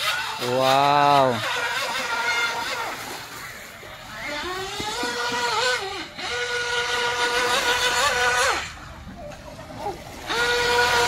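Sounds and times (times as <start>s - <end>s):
model speedboat motor whining: 0.0s - 11.0s.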